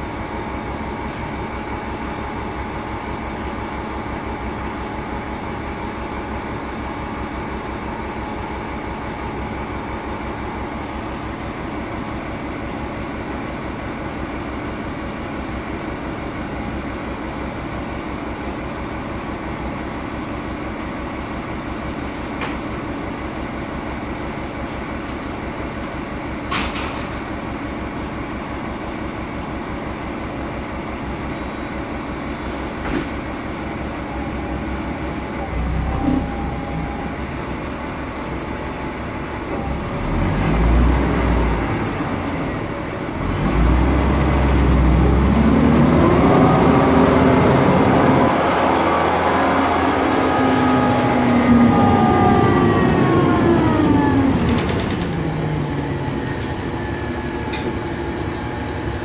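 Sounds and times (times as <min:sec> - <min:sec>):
bus engine and fan running: 0:00.0 - 0:59.0.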